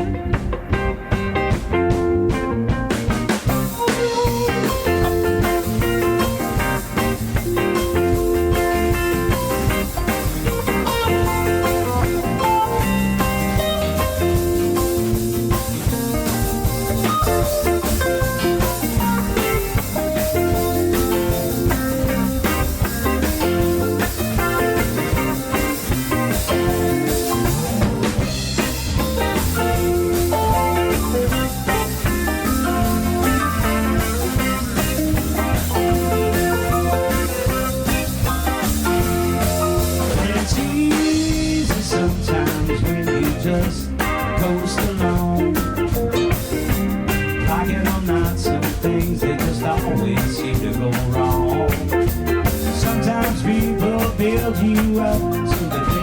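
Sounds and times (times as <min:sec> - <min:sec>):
bass guitar: 0:00.0 - 0:56.0
drum kit: 0:00.0 - 0:56.0
electric guitar lines: 0:00.0 - 0:56.0.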